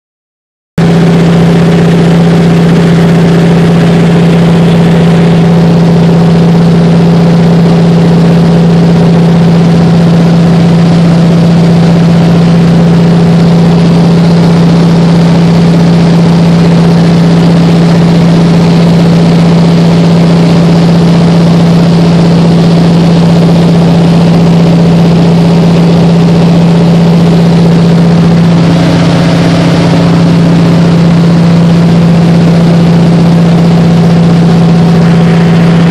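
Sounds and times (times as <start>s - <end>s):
aircraft engine drone in cabin: 0.8s - 35.9s.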